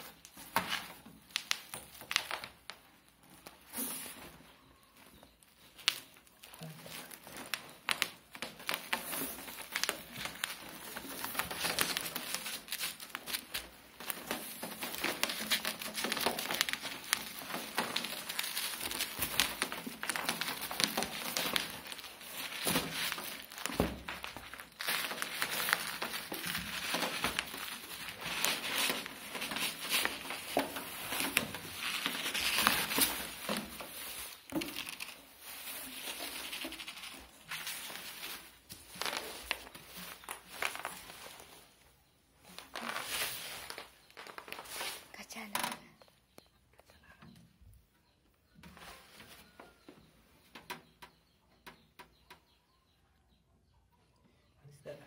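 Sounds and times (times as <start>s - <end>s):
bubble wrap crinkling: 0.0s - 45.5s.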